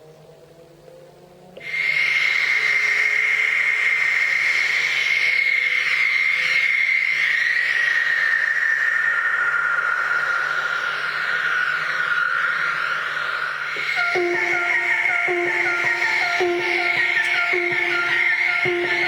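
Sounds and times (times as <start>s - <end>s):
high wind whistle over hiss: 1.6s - 19.0s.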